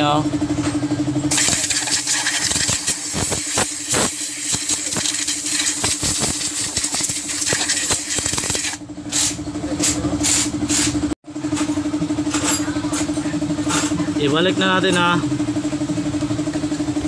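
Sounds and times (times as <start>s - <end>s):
engine idling: 0.0s - 8.2s, 8.8s - 17.0s.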